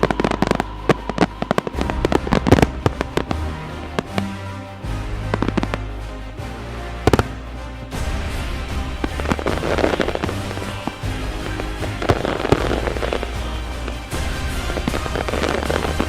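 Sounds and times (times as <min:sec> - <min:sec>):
background music: 0:00.0 - 0:16.0
fireworks crackling: 0:00.0 - 0:16.0.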